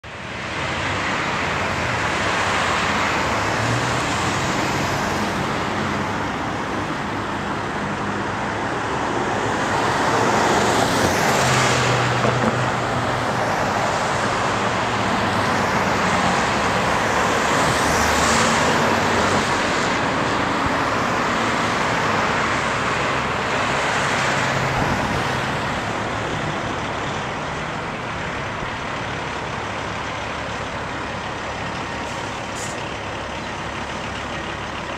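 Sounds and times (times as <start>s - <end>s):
vehicles passing by: 0.0s - 34.9s
truck diesel engine running: 4.4s - 34.9s.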